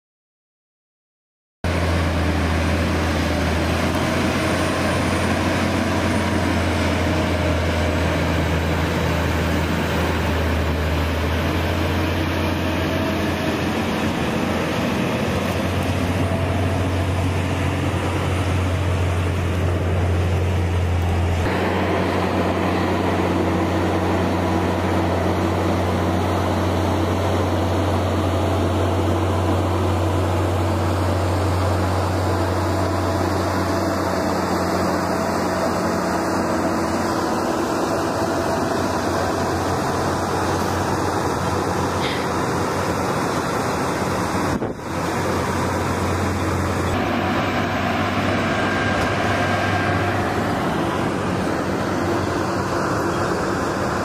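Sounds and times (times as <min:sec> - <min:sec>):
diesel engine running: 0:01.6 - 0:54.0.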